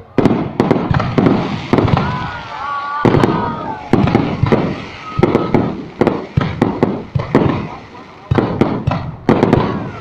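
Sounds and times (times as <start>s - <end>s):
fireworks bangs with echo: 0.0s - 10.0s.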